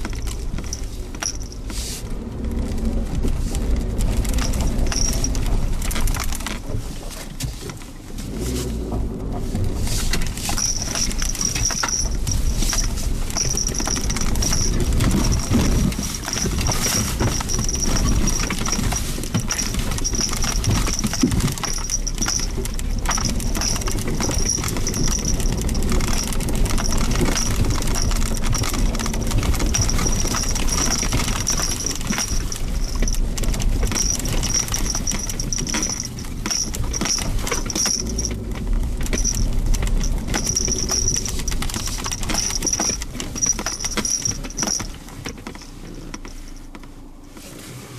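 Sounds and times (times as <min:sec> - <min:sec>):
knocks and rattles: 0:00.0 - 0:47.0
car engine and road rumble: 0:00.0 - 0:47.9.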